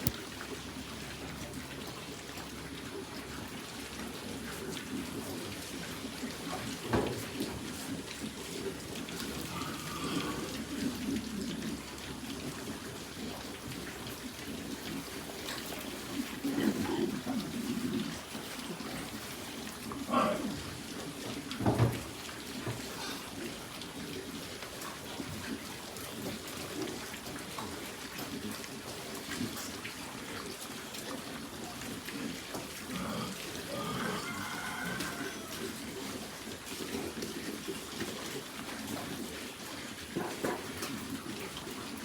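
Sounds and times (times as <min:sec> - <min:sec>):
running water splashing: 0:00.0 - 0:42.0.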